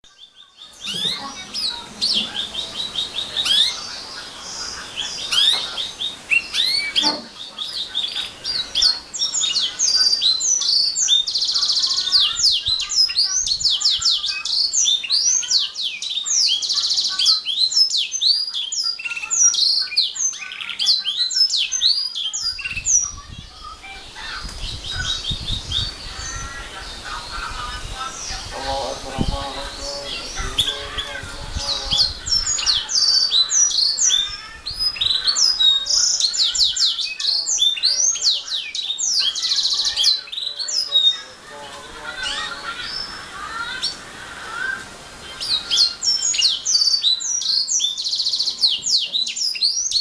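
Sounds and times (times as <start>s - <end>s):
canary singing: 0.0s - 50.0s.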